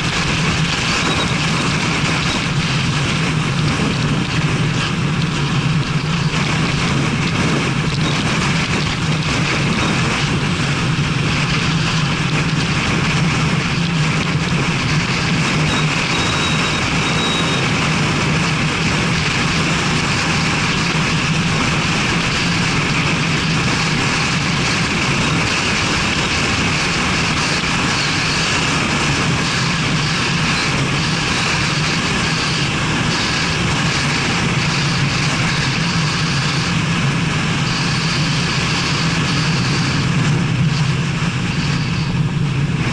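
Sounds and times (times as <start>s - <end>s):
car engine hum: 0.0s - 42.9s
wind noise: 0.0s - 42.9s.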